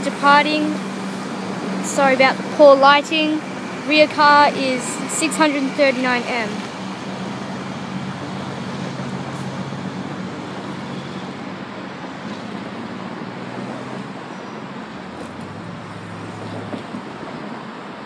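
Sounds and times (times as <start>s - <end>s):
low motor hum: 0.0s - 17.5s.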